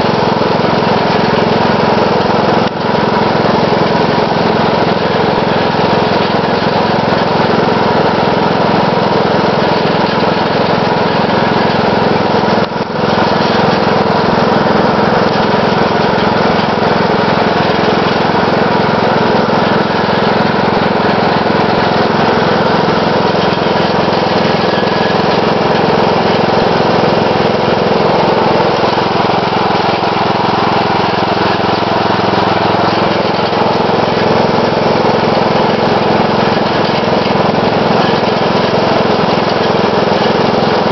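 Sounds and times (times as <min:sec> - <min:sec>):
ride-on mower engine running: 0:00.0 - 0:40.9.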